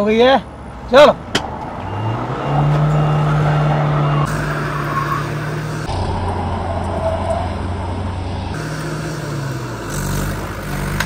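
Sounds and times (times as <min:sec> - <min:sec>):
engines straining under load: 0:00.0 - 0:11.0.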